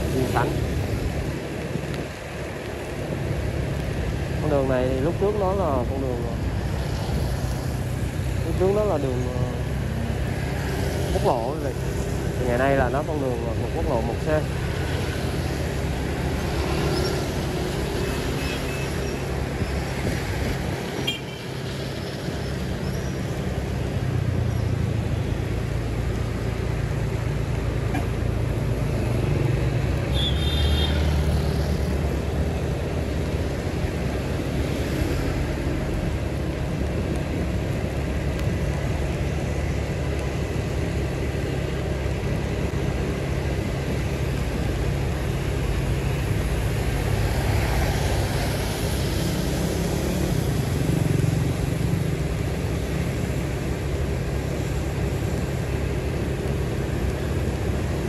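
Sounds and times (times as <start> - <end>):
road traffic rumble: 0.0 - 58.0
vehicles passing: 0.0 - 58.0.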